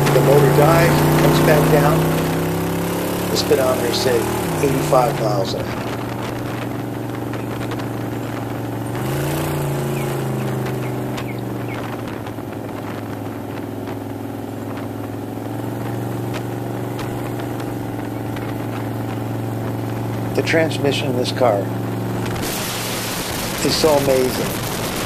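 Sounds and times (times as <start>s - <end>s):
car engine running: 0.0s - 25.0s
wind and road rush: 0.0s - 25.0s.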